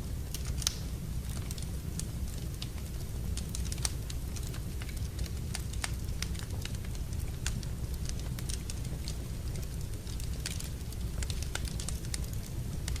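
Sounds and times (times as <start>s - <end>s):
fire low rumble: 0.0s - 13.0s
wood fire crackling and popping: 0.0s - 13.0s.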